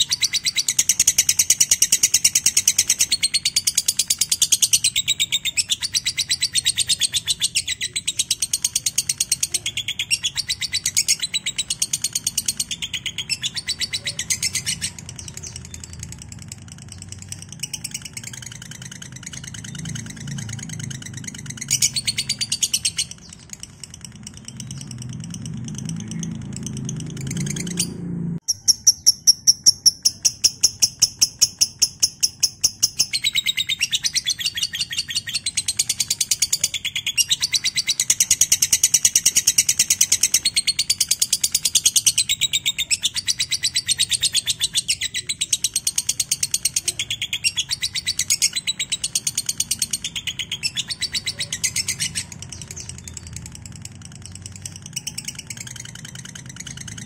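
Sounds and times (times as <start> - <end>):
lovebird shrill chattering chirps: 0.0 - 57.0.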